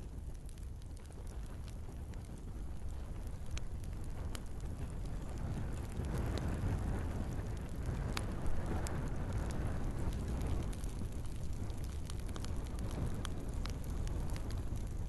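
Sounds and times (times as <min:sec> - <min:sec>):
fire flames rumbling: 0:00.0 - 0:15.0
logs crackling and popping: 0:00.0 - 0:15.0.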